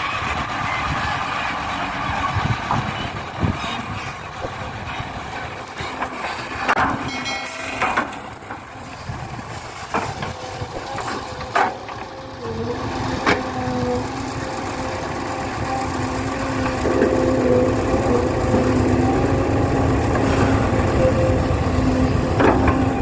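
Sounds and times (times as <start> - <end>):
excavator engine hum: 0.0 - 23.0.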